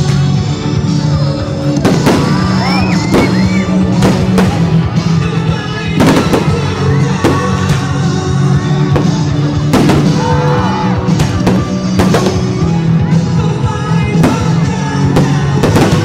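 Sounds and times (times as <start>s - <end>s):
fireworks bursting: 0.0s - 16.0s
loud music: 0.0s - 16.0s.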